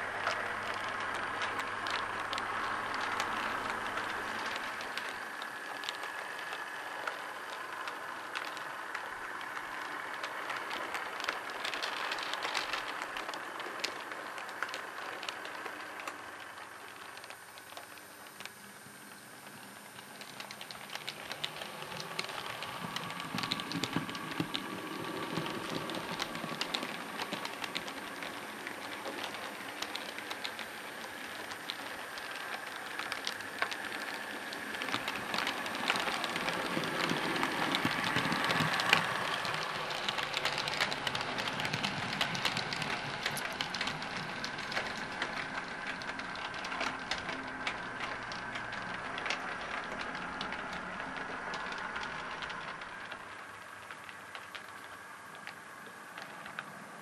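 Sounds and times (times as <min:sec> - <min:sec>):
faint motor whine: 0:00.0 - 0:57.0
model train wheel clicks: 0:00.0 - 0:57.0.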